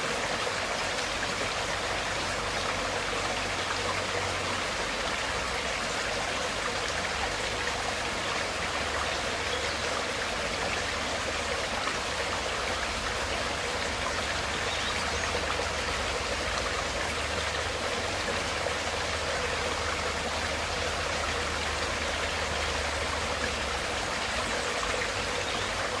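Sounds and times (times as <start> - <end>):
stream water flowing: 0.0 - 26.0.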